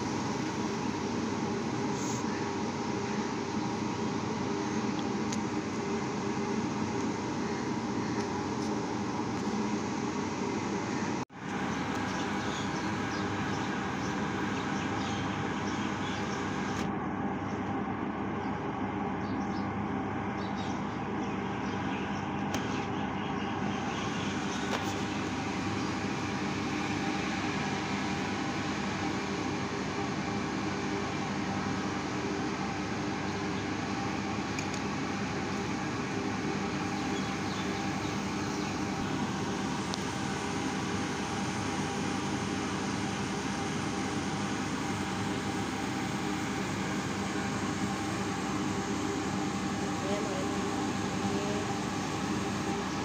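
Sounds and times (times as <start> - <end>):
mechanical hum and rumble: 0.0 - 53.0.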